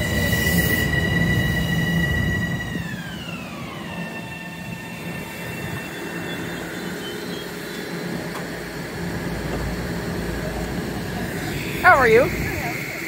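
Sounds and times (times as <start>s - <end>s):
train propulsion whine: 0.0s - 13.0s.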